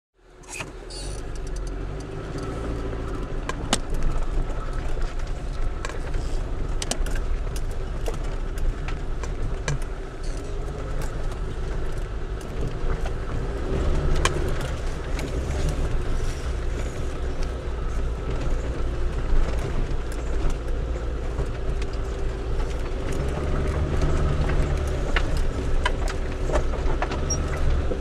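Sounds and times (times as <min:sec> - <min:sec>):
car engine running at low speed: 0:00.2 - 0:28.0
knocks and rattles over bumps: 0:00.8 - 0:28.0.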